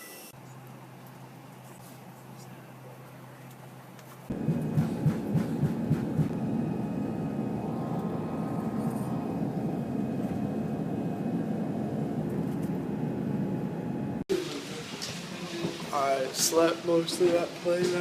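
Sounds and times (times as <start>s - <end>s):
airliner engines in cabin: 0.3s - 18.0s.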